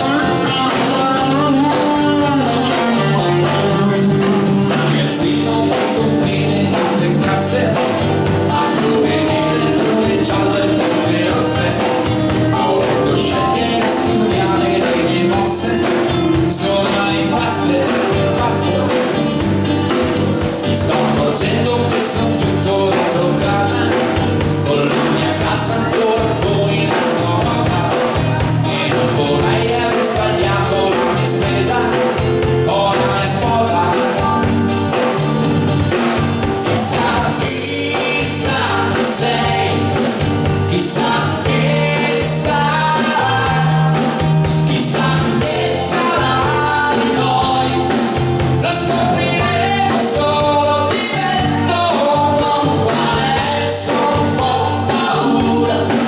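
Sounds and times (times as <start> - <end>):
person singing: 0.0 - 20.0, 20.6 - 35.1, 36.6 - 56.0
live rock band playing: 0.0 - 56.0.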